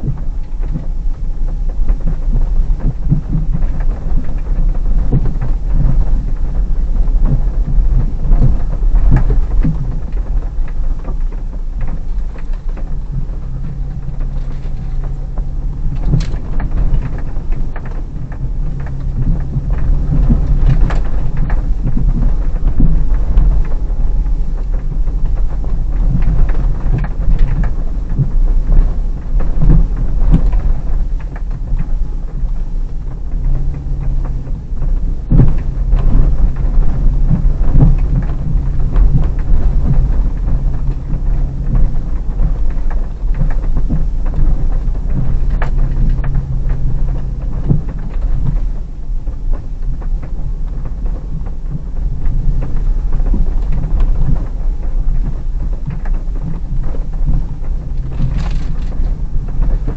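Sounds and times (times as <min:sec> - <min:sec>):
engine running at low revs: 0:00.0 - 0:59.9
low rumble: 0:00.0 - 0:59.9
vehicle knocks and rattles: 0:00.0 - 0:59.9.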